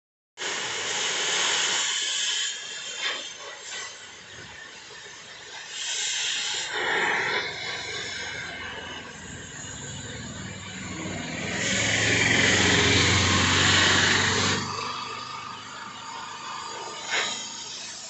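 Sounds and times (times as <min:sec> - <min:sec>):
harsh hissing of metal cutting: 0:00.4 - 0:18.0.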